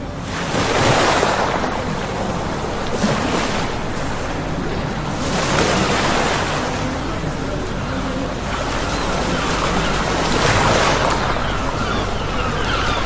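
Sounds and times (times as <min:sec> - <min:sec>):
low engine hum: 0:00.0 - 0:13.0
water rushing beside boat: 0:00.0 - 0:13.0.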